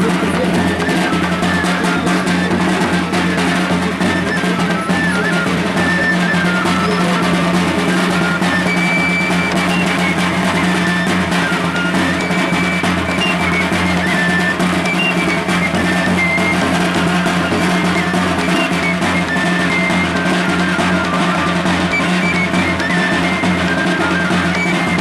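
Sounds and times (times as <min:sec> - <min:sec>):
flute playing high melody: 0:00.0 - 0:25.0
large drums beaten with sticks: 0:00.0 - 0:25.0.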